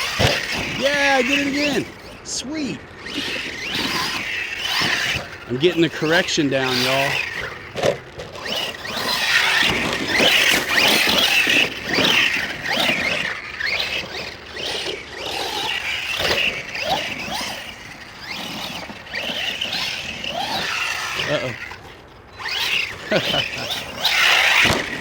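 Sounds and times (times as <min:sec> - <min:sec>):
electric motor whining: 0:00.0 - 0:25.0.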